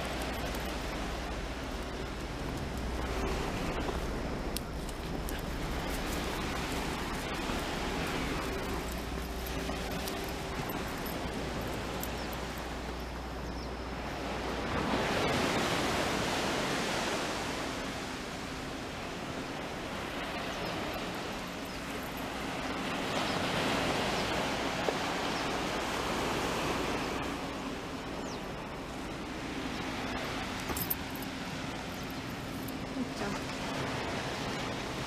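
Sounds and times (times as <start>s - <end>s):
small waves washing onto beach: 0.0s - 35.0s.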